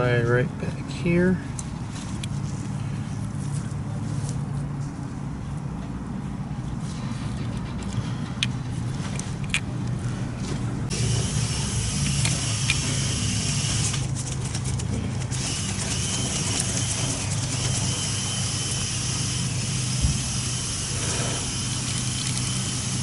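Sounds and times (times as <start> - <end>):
low engine hum: 0.4 - 23.0.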